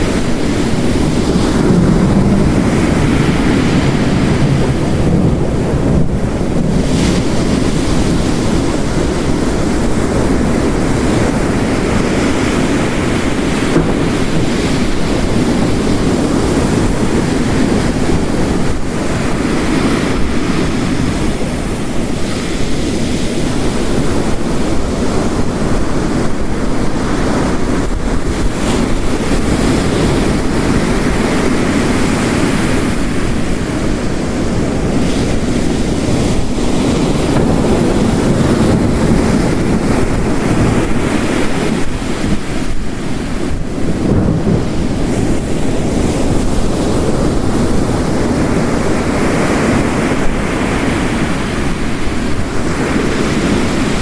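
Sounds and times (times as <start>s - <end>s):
heavy rain: 0.0s - 54.0s
waves crashing on rocks: 0.0s - 54.0s.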